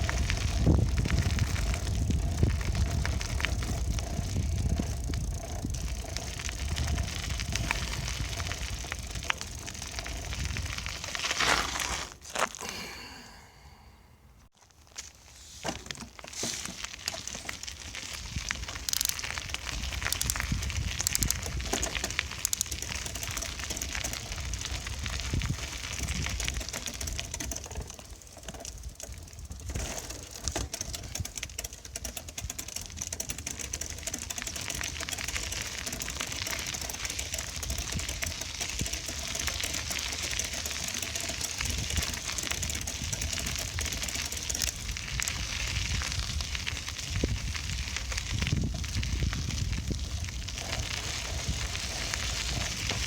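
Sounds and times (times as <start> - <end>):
bicycle rattling and clicking: 0.0 - 12.6, 14.6 - 53.0
bicycle tyres rolling: 0.0 - 13.2, 14.5 - 53.0.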